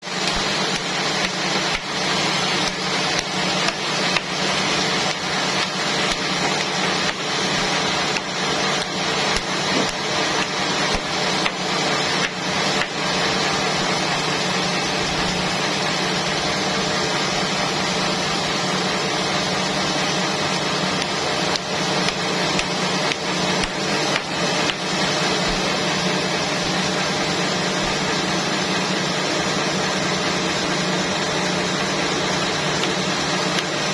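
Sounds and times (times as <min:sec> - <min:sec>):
sawmill saw cutting log: 0:00.0 - 0:33.9.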